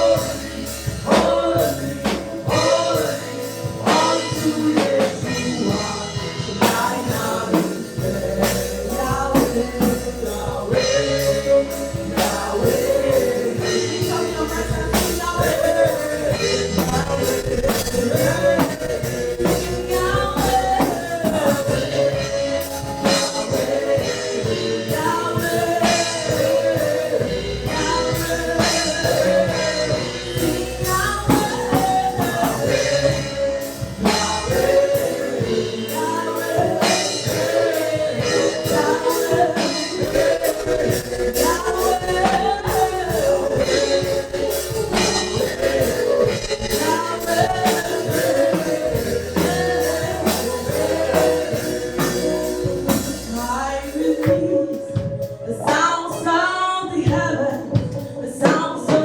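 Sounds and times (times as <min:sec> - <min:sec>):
gospel singing voices: 0:00.0 - 0:59.0
live band with drums and bass: 0:00.0 - 0:59.0.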